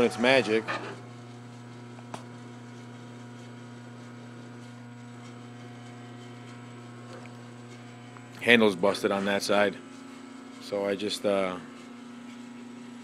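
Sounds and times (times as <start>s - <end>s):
milling machine motor hum: 0.0s - 13.0s.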